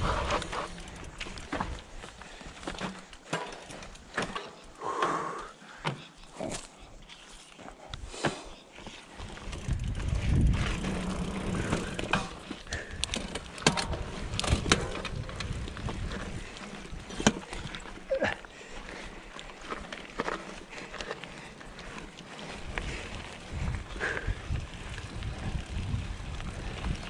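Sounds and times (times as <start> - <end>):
bike rattling over bumps: 0.0 - 7.0, 8.2 - 27.0.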